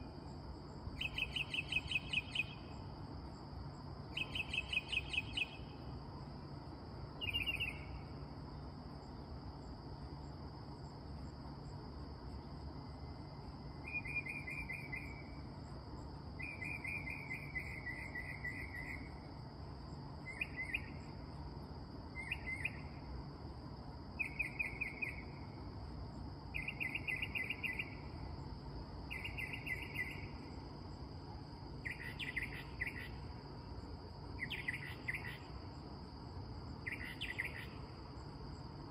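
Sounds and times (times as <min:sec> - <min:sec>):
night insects droning: 0:00.0 - 0:38.9.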